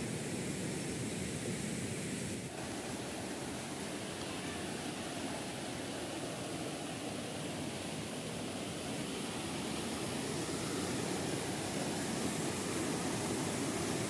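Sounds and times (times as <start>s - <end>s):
stream rushing over rapids: 0.0s - 14.0s.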